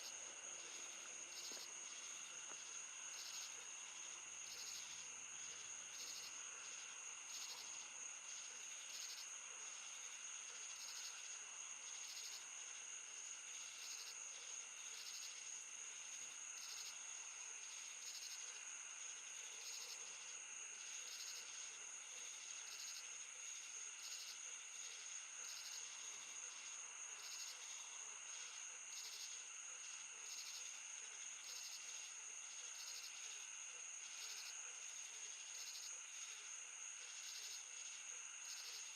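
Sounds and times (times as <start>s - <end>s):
crickets trilling: 0.0s - 38.9s
insect chirping: 0.0s - 38.9s.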